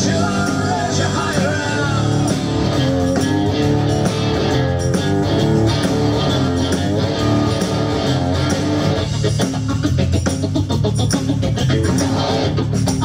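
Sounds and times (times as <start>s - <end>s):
electric guitar: 0.0s - 13.0s
live blues-rock band: 0.0s - 13.0s.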